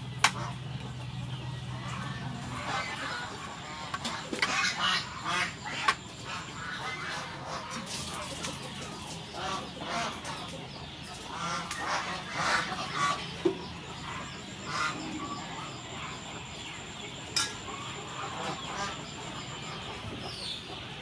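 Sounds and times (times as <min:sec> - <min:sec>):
geese honking: 0:00.0 - 0:20.8.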